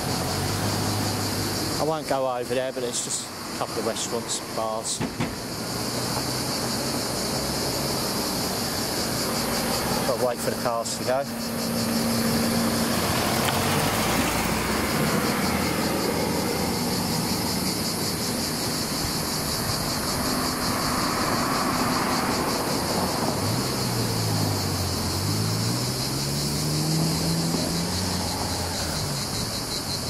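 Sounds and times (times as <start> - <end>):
engine revving pulling away: 0.0 - 1.8, 5.6 - 29.9
cars passing: 0.0 - 30.0
pulsing insect chirr: 0.0 - 30.0.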